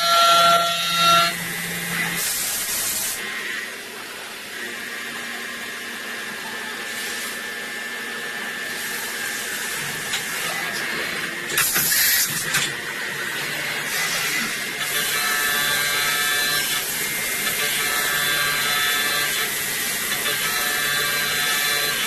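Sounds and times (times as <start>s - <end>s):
machining centre whine and hiss: 1.4s - 22.0s.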